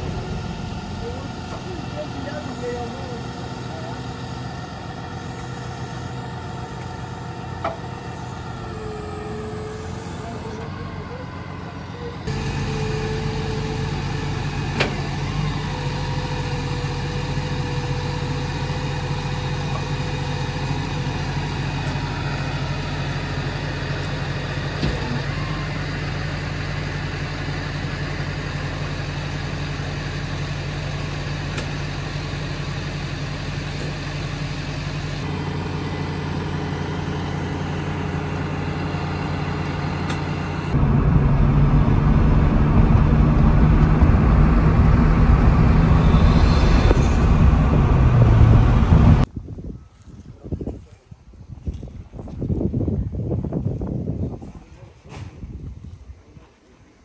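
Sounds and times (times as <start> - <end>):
car engine running: 0.0 - 49.3.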